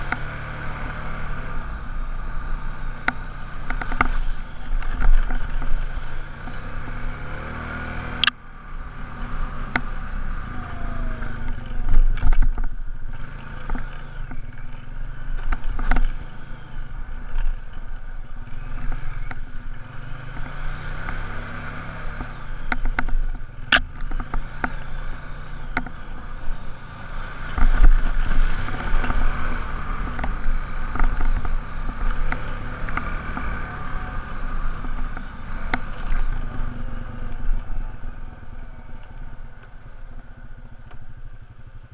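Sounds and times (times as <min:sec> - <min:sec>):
quad bike engine running: 0:00.0 - 0:41.9.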